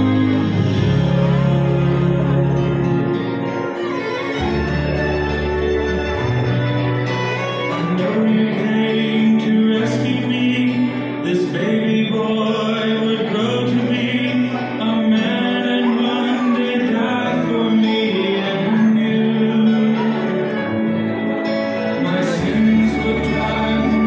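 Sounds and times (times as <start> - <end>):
song with sung vocals: 0.0 - 24.0.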